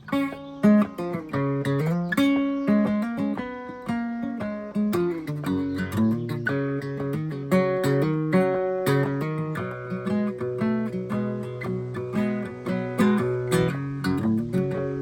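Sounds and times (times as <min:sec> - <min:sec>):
guitar plucked notes: 0:00.0 - 0:15.0.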